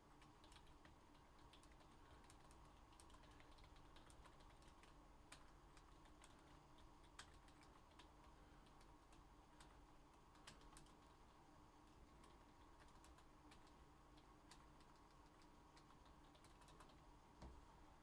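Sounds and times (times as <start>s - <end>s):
low steady hum: 0.0s - 18.0s
keyboard typing: 0.2s - 11.3s, 11.9s - 17.1s.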